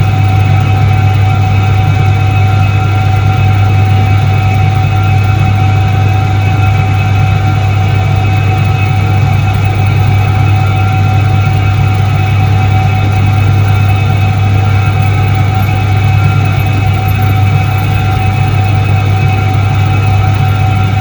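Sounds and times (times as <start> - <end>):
faint steady whine: 0.0 - 21.0
washing machine hum: 0.0 - 21.0.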